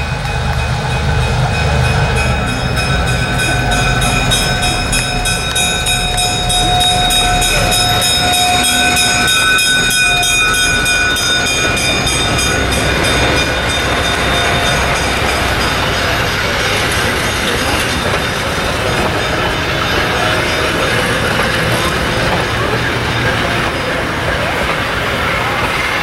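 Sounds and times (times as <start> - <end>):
diesel locomotive engine rumble: 0.0 - 26.0
steady high tones: 0.0 - 26.0
wheels clicking on rails: 0.0 - 26.0.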